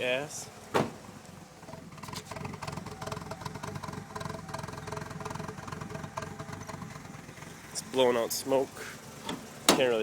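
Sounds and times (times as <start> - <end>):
car engine idling roughly: 1.4 - 10.0.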